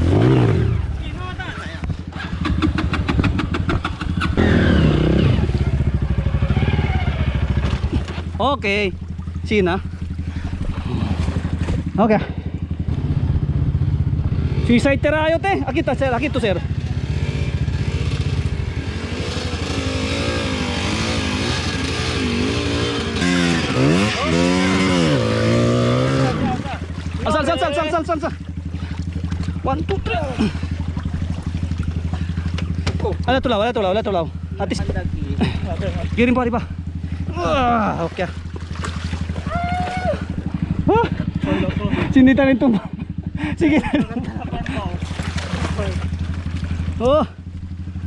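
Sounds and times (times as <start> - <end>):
dirt bike engine: 0.0 - 48.0.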